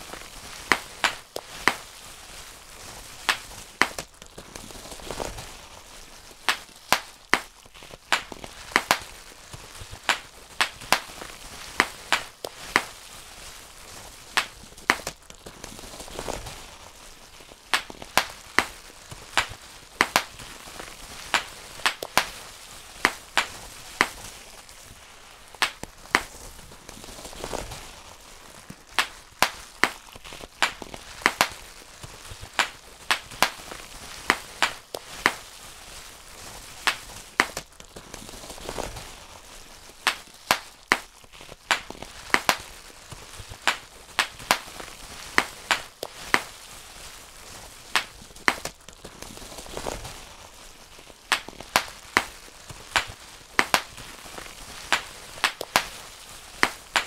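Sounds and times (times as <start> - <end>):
bubble wrap popping: 0.0 - 57.0
plastic sheet crinkling: 0.0 - 57.0.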